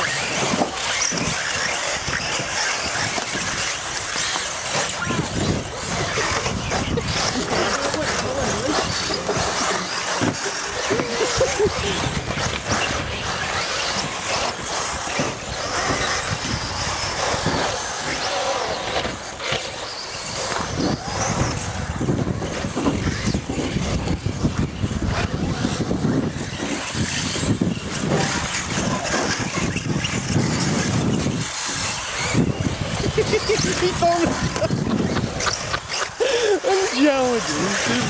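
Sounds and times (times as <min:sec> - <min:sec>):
model car motors racing: 0:00.0 - 0:38.0.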